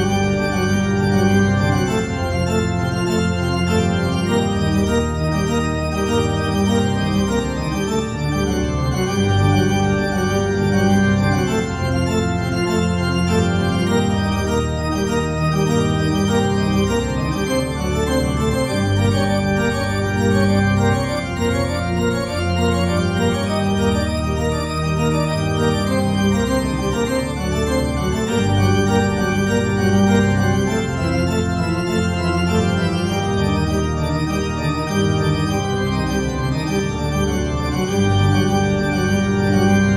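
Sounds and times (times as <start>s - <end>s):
organ playing slow chords: 0.0s - 39.9s.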